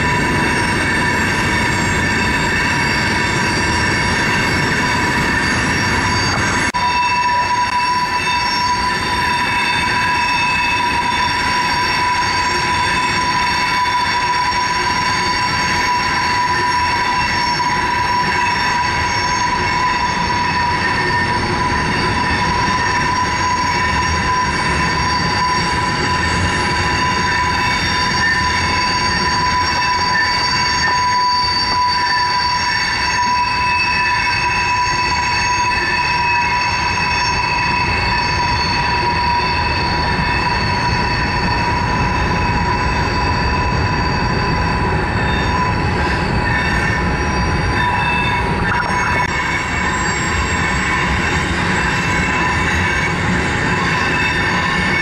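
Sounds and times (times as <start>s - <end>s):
high-pitched wheel flange squeal: 0.0s - 55.0s
train wheels rumbling: 0.0s - 55.0s.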